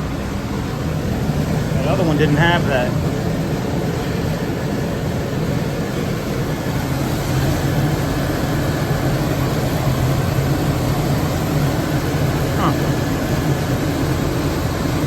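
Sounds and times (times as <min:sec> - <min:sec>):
boiler burner rumble: 0:00.0 - 0:15.0.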